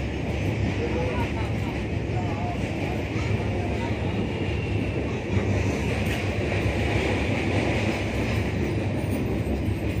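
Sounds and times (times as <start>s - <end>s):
train rumbling over steel bridge: 0.0s - 10.0s.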